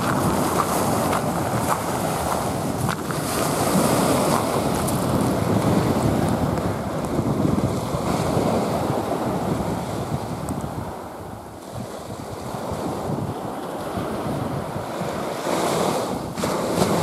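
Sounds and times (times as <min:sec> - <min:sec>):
waves breaking on beach: 0:00.0 - 0:17.0
wind buffeting microphone: 0:00.0 - 0:17.0.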